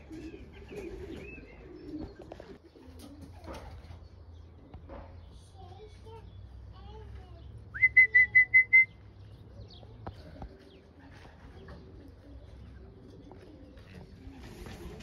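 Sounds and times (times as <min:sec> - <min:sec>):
pigeons cooing: 0:00.0 - 0:05.3, 0:07.8 - 0:15.0.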